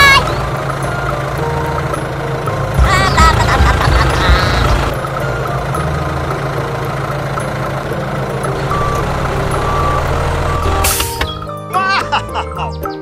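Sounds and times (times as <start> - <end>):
heavy vehicle engine running: 0.0 - 11.6.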